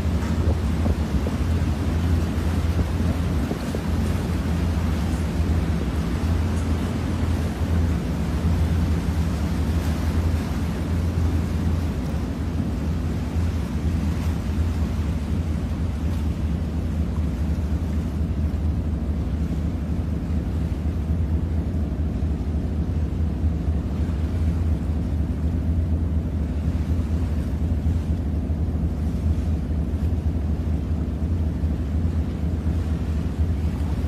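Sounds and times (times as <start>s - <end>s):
ferry engine rumble: 0.0s - 34.0s.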